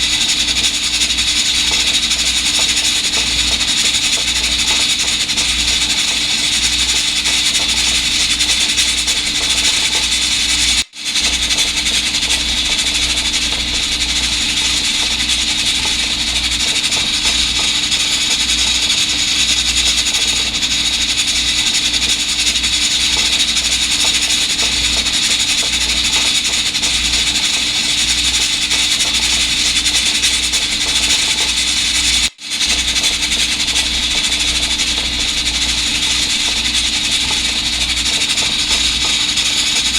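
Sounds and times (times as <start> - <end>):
rice cooker steam hissing: 0.0 - 39.9.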